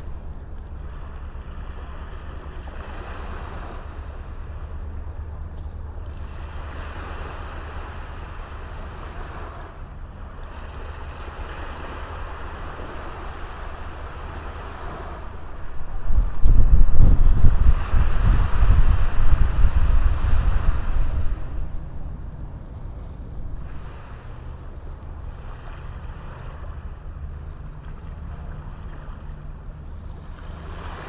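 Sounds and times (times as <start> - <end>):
small waves washing onto beach: 0.0 - 31.0
wind rumble on microphone: 0.0 - 31.0.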